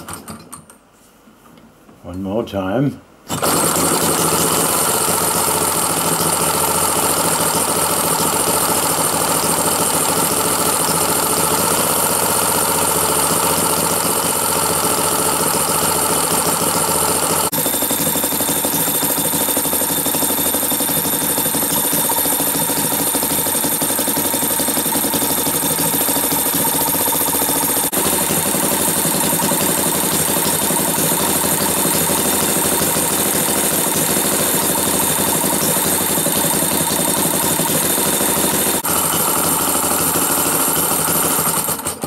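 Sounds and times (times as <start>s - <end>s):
model engine running fast: 3.3s - 42.0s.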